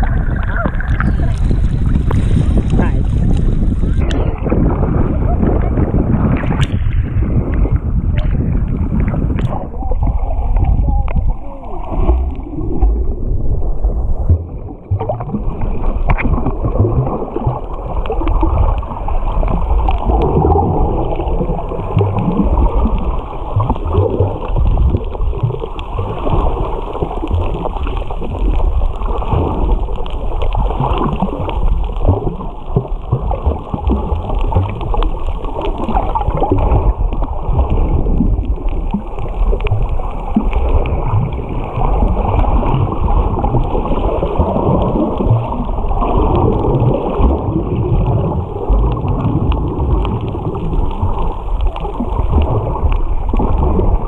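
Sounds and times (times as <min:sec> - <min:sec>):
muffled underwater bubbling: 0:00.0 - 0:54.0.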